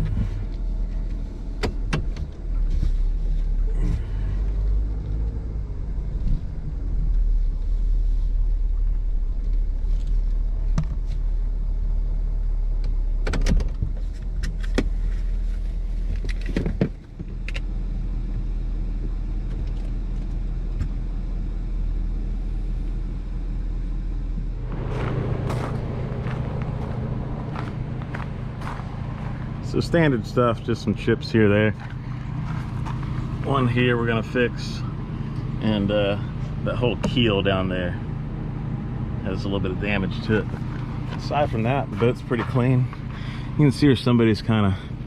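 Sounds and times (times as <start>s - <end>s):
car driving rumble: 0.0s - 45.0s.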